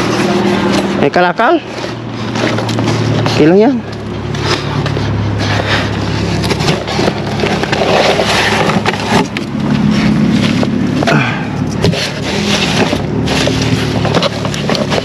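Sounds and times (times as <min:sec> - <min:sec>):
cardboard boxes rustling and knocking: 0:00.0 - 0:15.0
steady low hum: 0:00.0 - 0:15.0.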